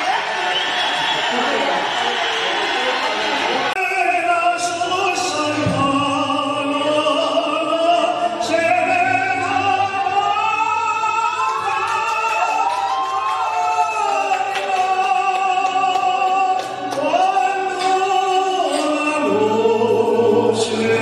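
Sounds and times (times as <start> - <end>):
music: 2.8 - 21.0
person singing long sliding notes: 3.8 - 21.0.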